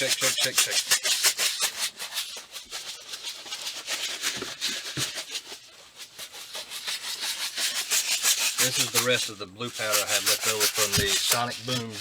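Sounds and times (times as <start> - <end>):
powder rattling in plastic jug: 0.0 - 12.0.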